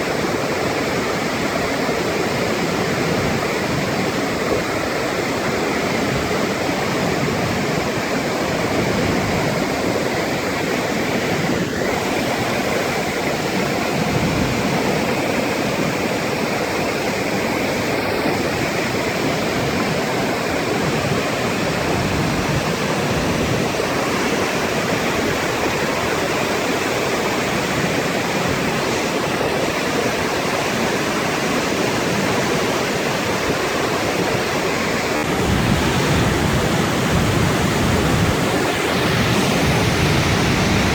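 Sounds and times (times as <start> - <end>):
water rushing over waterfall: 0.0 - 40.9.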